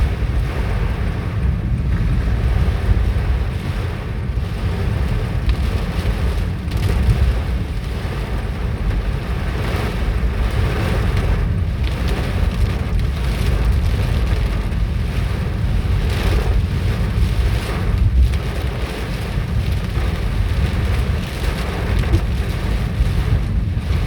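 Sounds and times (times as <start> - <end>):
heavy rain and hail: 0.0 - 24.0
wind buffeting microphone: 0.0 - 24.0.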